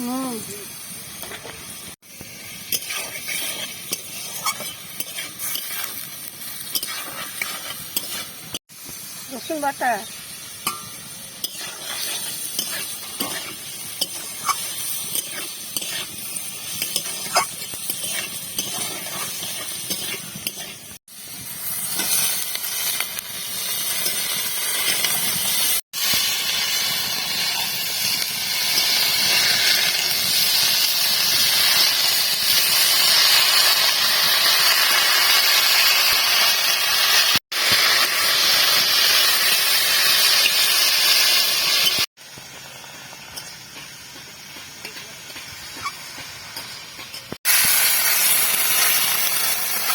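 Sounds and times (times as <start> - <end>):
oil sizzling in a pan: 0.0 - 49.9.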